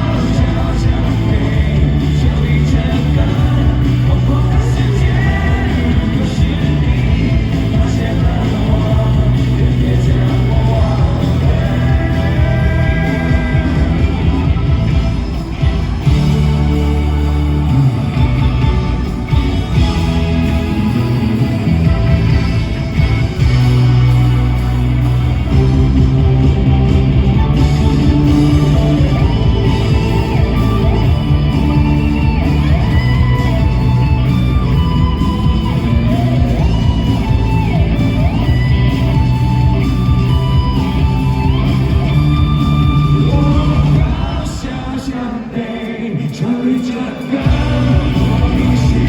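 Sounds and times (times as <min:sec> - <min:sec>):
lead vocals singing: 0:00.0 - 0:24.1, 0:27.5 - 0:49.0
live rock band: 0:00.0 - 0:46.0, 0:46.6 - 0:49.0.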